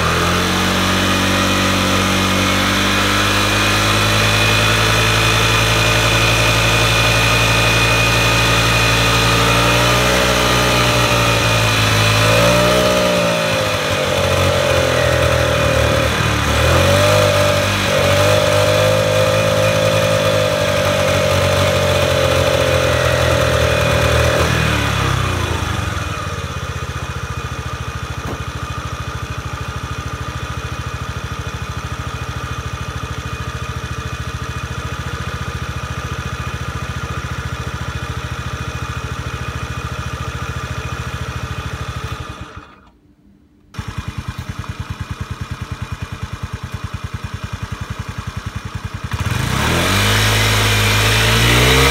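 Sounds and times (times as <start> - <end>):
scooter engine revving: 0.0 - 43.0, 43.7 - 51.9.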